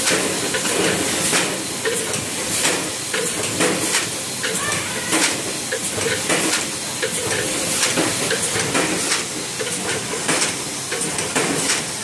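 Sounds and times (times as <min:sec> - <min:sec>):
machine mechanical clatter: 0:00.0 - 0:12.0.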